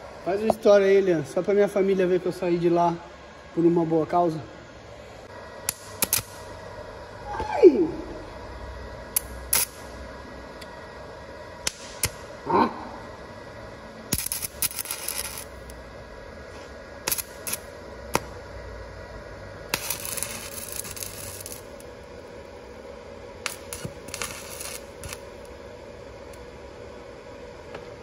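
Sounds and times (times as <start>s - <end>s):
arc welder crackling: 4.9s - 28.0s.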